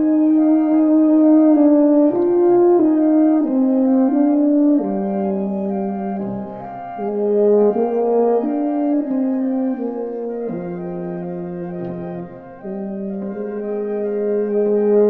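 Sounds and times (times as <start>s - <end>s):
solo tuba melody: 0.0s - 15.0s.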